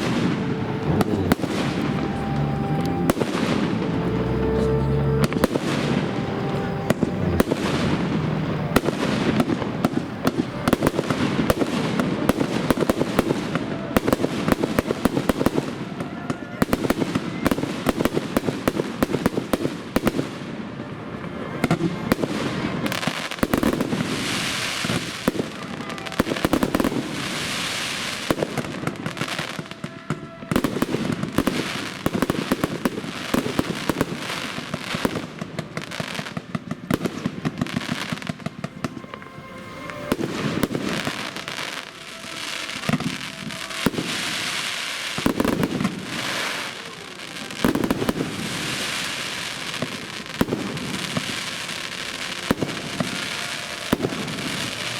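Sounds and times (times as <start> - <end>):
firework crackling: 0.0 - 54.9.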